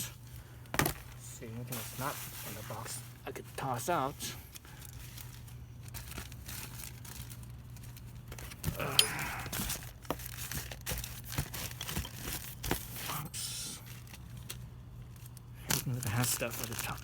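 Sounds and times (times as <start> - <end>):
packaging crinkling and rustling: 0.4 - 13.2, 13.8 - 17.0.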